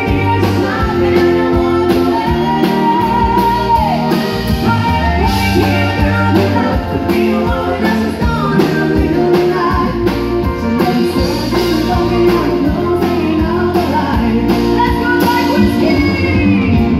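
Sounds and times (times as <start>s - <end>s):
country band playing: 0.0s - 16.9s
pedal steel guitar: 0.0s - 16.9s
woman singing into a microphone: 0.0s - 16.9s.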